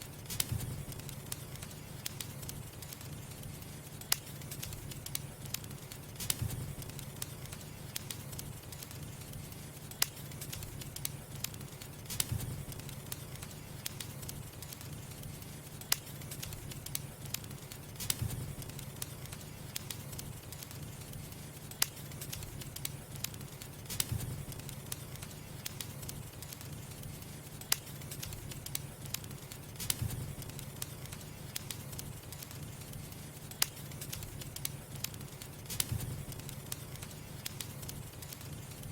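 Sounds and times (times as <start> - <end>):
fire low rumble: 0.0 - 38.9
firewood crackling and popping: 0.0 - 38.9.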